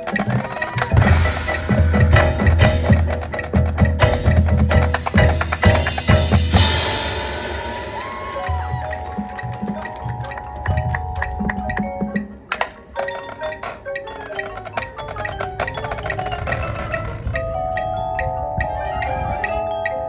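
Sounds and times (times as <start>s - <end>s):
music with percussion hits: 0.0s - 20.0s.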